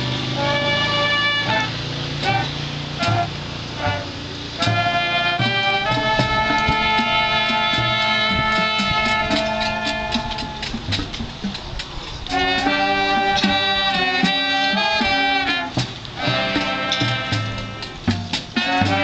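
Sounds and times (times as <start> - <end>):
drum strokes: 0.0 - 19.0
marching band playing: 0.0 - 19.0.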